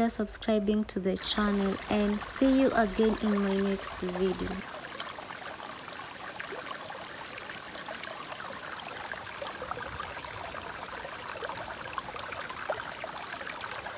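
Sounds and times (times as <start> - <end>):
stream trickling over stones: 1.2 - 13.9.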